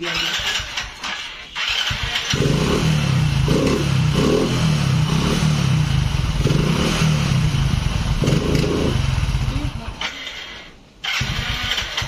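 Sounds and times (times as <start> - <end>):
motorcycle engine idling: 0.2 - 10.2.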